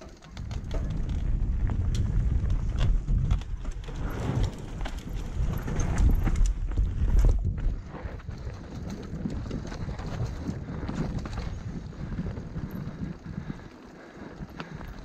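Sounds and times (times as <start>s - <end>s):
bike chain and frame rattling: 0.0s - 15.0s
bike tyres rumbling on dirt: 0.0s - 15.0s
wind buffeting microphone: 0.0s - 15.0s.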